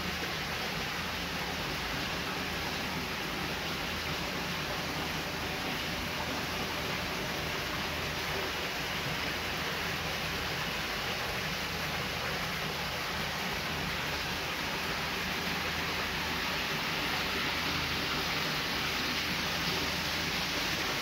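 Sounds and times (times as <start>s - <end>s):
hiss of moving water: 0.0s - 21.0s.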